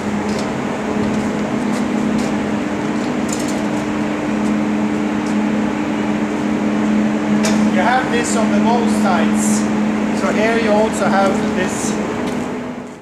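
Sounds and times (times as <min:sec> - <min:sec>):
low steady tones: 0:00.0 - 0:12.8
large fans humming: 0:00.0 - 0:13.0.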